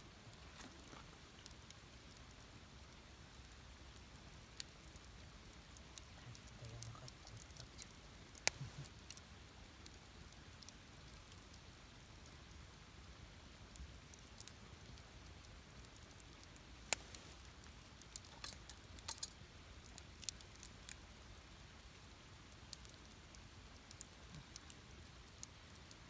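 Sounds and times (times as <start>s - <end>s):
campfire crackling: 0.0s - 26.0s
low steady hiss: 0.0s - 26.0s.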